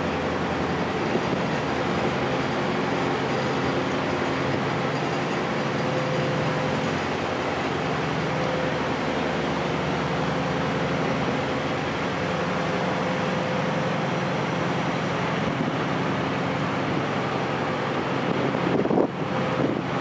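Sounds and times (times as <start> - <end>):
ferry engine hum: 0.0 - 20.0
rushing air and water: 0.0 - 20.0.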